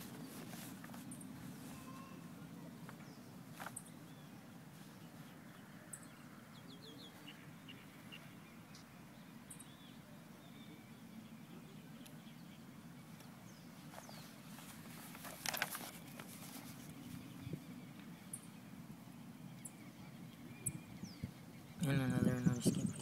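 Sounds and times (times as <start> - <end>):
distant bird chirps: 0.0 - 23.0.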